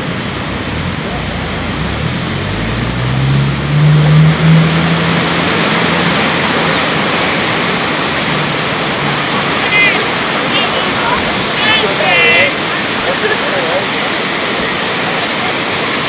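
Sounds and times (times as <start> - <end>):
ocean surf roaring: 0.0 - 16.0
vehicle engine passing: 0.0 - 16.0.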